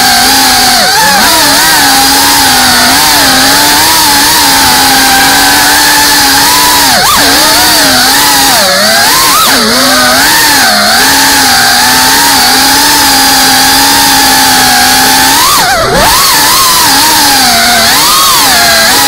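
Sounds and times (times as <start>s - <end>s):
drone motors and propellers whining: 0.0s - 19.0s.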